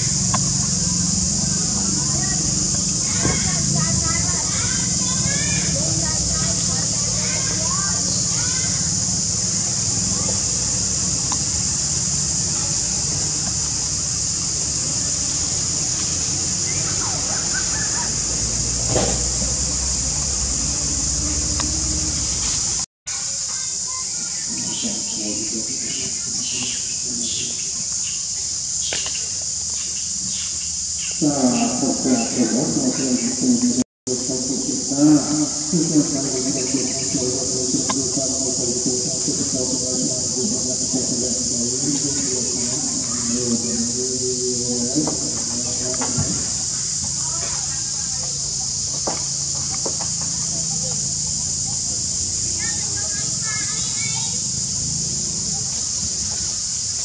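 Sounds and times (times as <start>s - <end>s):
crickets chirping: 0.0s - 57.0s
insect chorus drone: 0.0s - 57.0s.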